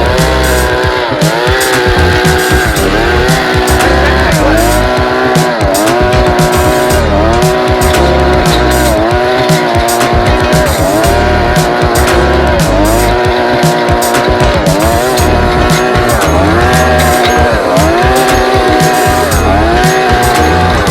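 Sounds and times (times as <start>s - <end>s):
backing music: 0.0s - 20.9s
brush-cutter engine running: 0.0s - 20.9s.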